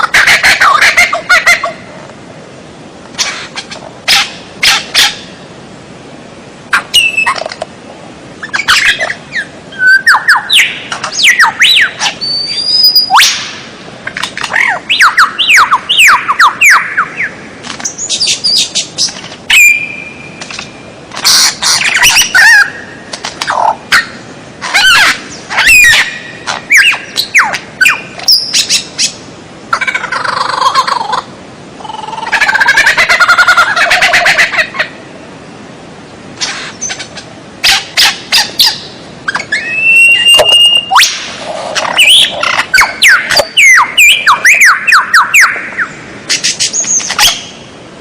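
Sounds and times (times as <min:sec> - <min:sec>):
songbird chirps and trills: 0:06.7 - 0:07.8, 0:08.4 - 0:35.4, 0:36.0 - 0:47.8.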